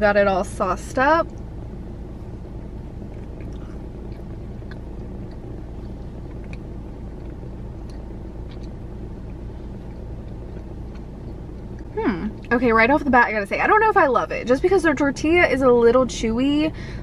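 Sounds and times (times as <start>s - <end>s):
car idling inside cabin: 0.0s - 17.0s.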